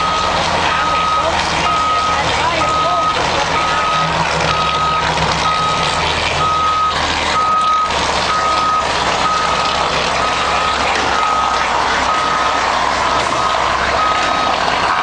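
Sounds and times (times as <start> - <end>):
diesel truck engine running: 0.0 - 15.0
reversing alarm beeping: 0.0 - 15.0.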